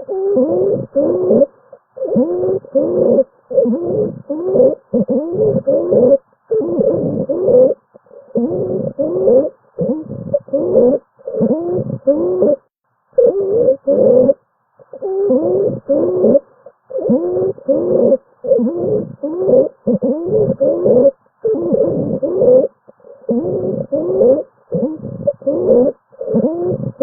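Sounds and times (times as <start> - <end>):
pitched cooing breath sounds: 0.0 - 27.0.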